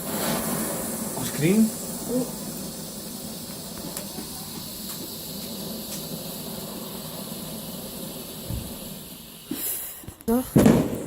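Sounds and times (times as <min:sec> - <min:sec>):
fireworks dull thud: 0:00.0 - 0:11.0
fireworks hissing: 0:00.0 - 0:11.0
fireworks loud crack: 0:00.0 - 0:11.0.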